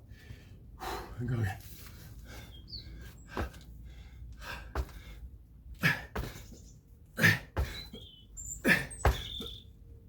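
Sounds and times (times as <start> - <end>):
man breathing heavily: 0.0 - 9.4.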